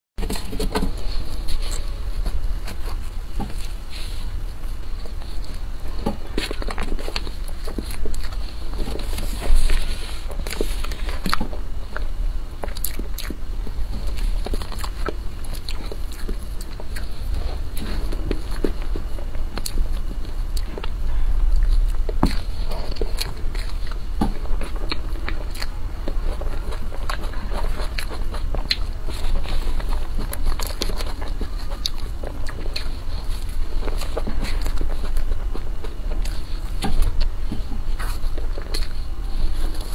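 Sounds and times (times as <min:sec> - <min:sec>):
low hum: 0:00.2 - 0:39.9
wet chewing and mouth smacks: 0:00.2 - 0:39.9.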